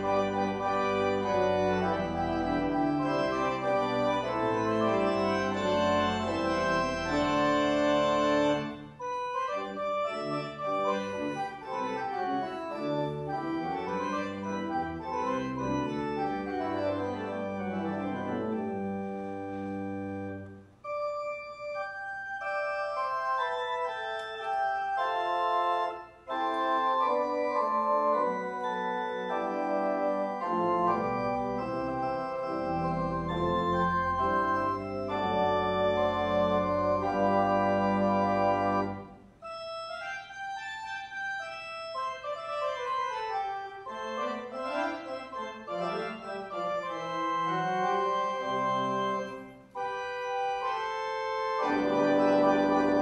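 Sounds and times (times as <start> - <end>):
organ playing slow chords: 0.0 - 53.0.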